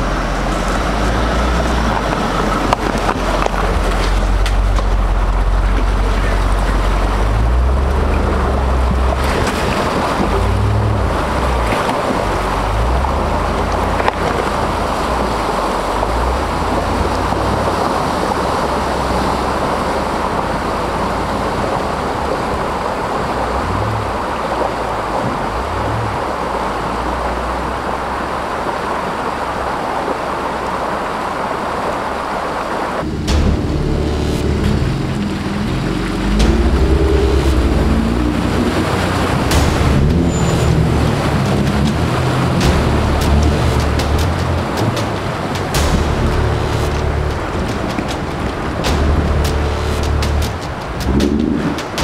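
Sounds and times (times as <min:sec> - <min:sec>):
water-like rushing noise: 0:00.0 - 0:52.0
wind buffeting microphone: 0:00.0 - 0:52.0.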